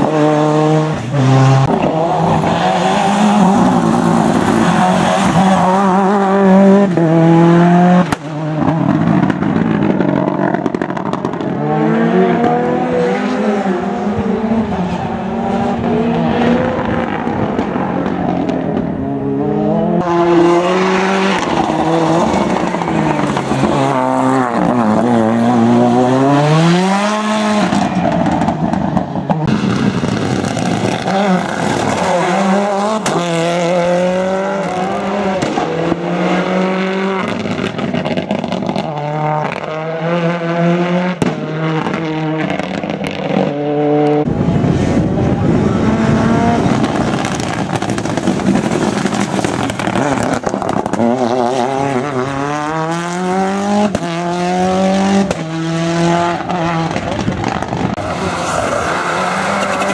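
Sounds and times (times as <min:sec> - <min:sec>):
rally car engines revving hard: 0:00.0 - 0:59.9.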